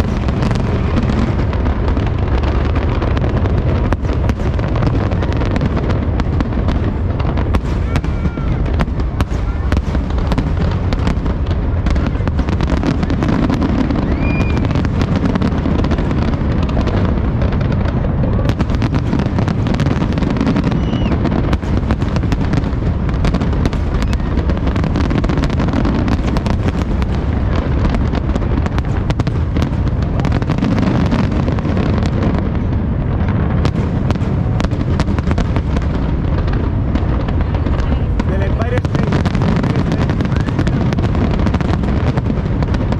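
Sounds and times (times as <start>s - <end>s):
fireworks bangs and crackles: 0.0s - 42.9s
low rumble: 0.0s - 42.9s.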